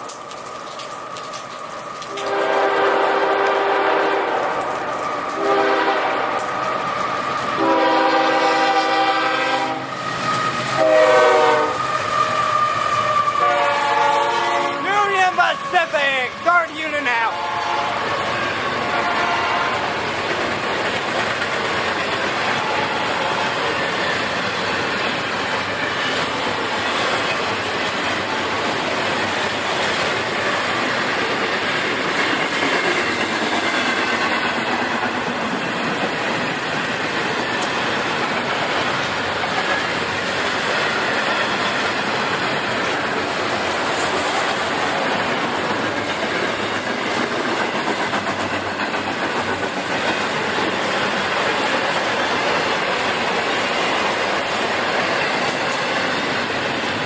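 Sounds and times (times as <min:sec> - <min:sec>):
train rolling past: 0:00.0 - 0:57.0.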